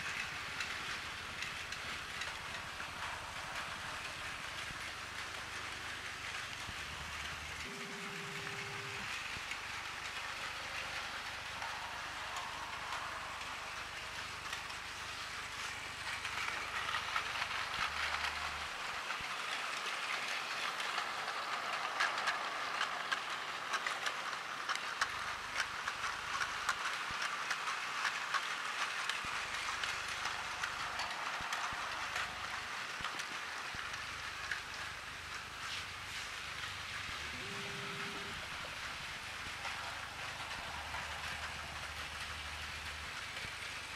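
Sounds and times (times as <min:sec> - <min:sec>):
toy train motor whirring: 0:00.0 - 0:43.9
wheels clicking over track: 0:00.0 - 0:43.9.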